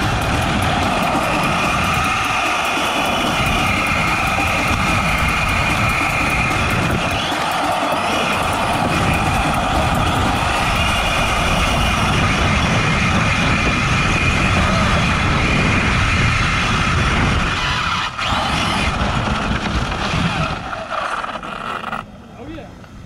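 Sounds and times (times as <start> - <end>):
rc truck electric motor running: 0.0 - 22.1.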